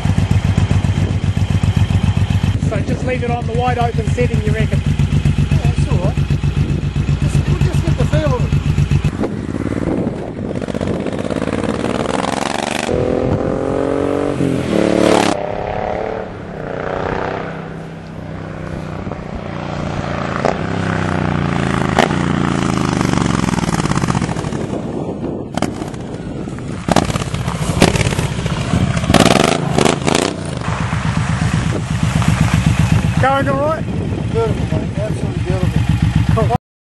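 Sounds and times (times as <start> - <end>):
motorcycle engine revving: 0.0 - 36.6.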